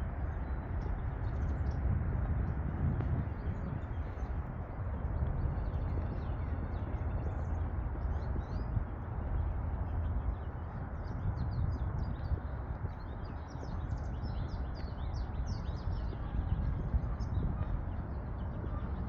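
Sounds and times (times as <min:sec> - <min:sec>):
steady low rumble: 0:00.0 - 0:19.0
small birds chirping: 0:00.1 - 0:19.0.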